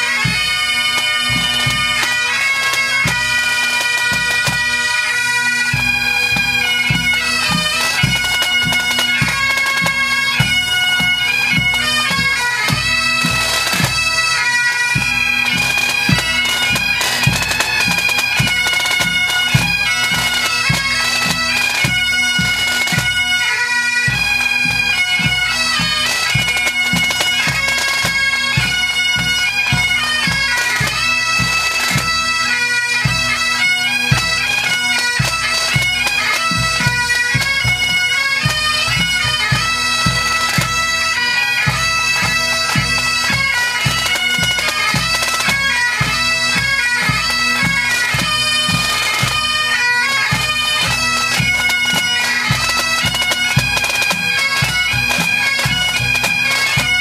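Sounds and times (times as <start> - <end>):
snare drums: 0.0 - 5.0, 5.7 - 23.2, 24.0 - 32.3, 34.1 - 57.0
bagpipes playing a melody: 0.0 - 57.0.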